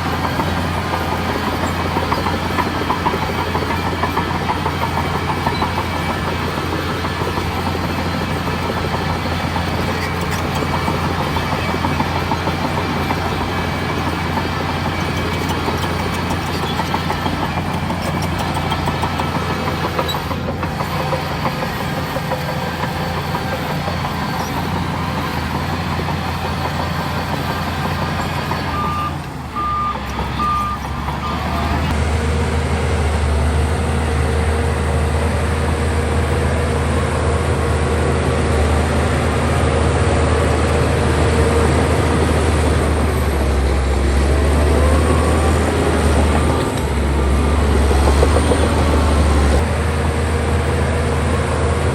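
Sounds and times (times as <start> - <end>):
heavy diesel engines running: 0.0 - 51.9.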